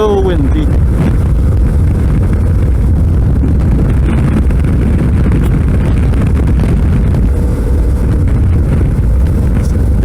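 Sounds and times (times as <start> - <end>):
motorcycle engine running: 0.0 - 10.0
road noise: 0.0 - 10.0
wind buffeting microphone: 0.0 - 10.0.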